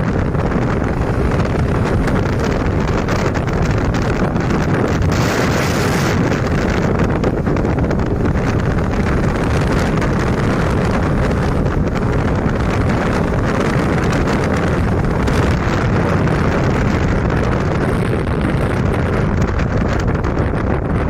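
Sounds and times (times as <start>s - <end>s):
scooter engine running: 0.0s - 21.0s
wind buffeting microphone: 0.0s - 21.0s.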